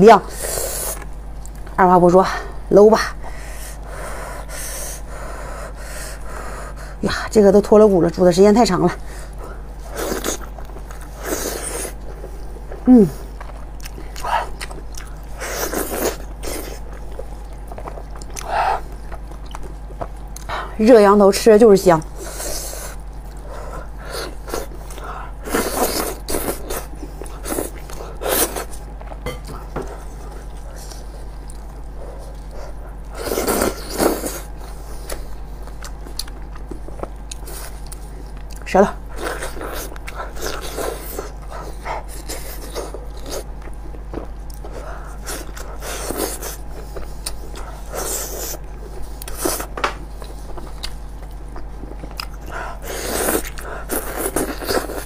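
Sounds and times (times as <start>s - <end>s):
steady low hum: 0.0s - 55.0s
wet chewing and sucking: 9.2s - 20.6s, 22.0s - 55.0s.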